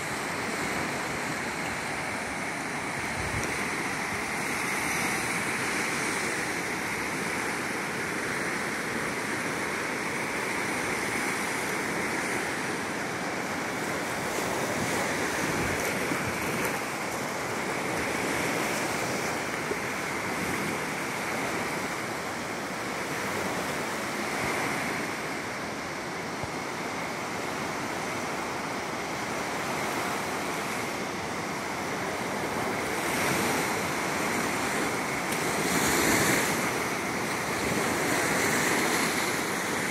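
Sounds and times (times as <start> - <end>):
waves breaking on a sandy beach: 0.0 - 39.9.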